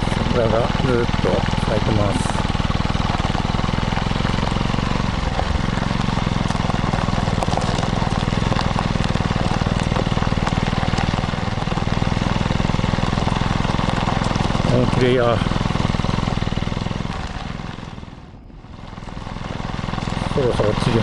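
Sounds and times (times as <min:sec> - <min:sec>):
motorcycle exhaust running: 0:00.0 - 0:21.0.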